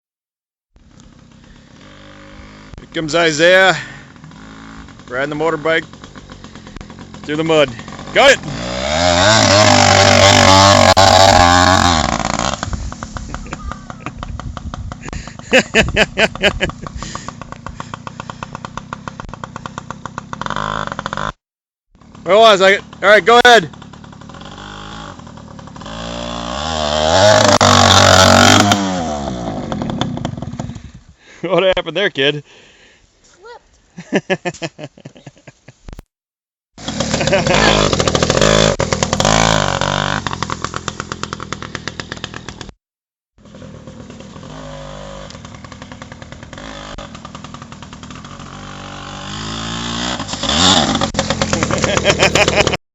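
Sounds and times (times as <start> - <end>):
dirt bike engine revving: 0.8 - 31.1, 36.8 - 42.8, 43.4 - 52.8.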